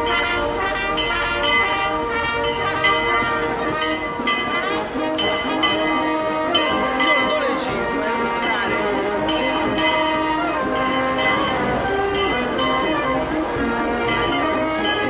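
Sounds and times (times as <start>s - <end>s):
church bells ringing: 0.0s - 15.0s
crowd voices: 0.0s - 15.0s.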